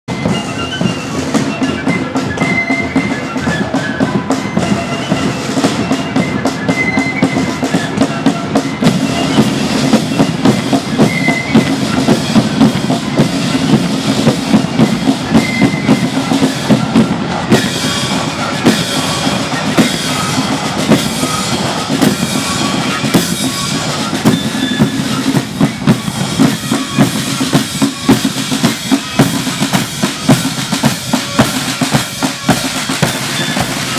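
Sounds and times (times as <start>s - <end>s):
flutes playing a tune: 0.1s - 33.9s
side drums and bass drum beat: 0.1s - 33.9s.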